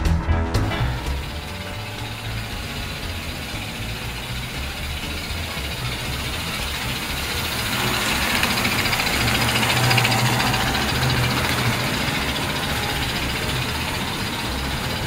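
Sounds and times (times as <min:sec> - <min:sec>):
motor hum: 0:00.7 - 0:15.0
toy train wheels rumbling on rails: 0:00.9 - 0:15.0.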